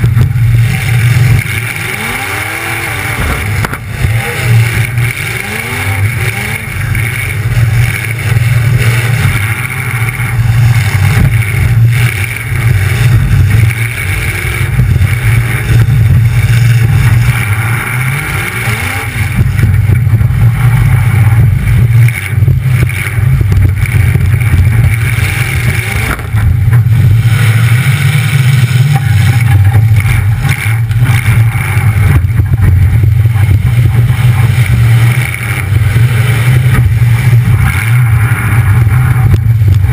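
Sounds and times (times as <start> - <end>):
loud car engine revving: 0.0 - 39.9.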